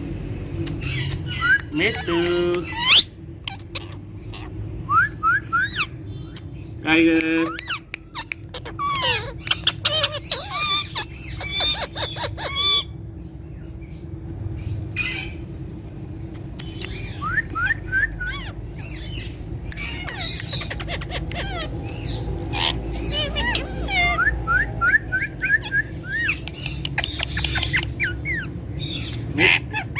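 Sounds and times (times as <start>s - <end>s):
parrots squawking: 0.6s - 13.0s, 14.6s - 15.5s, 16.4s - 29.9s.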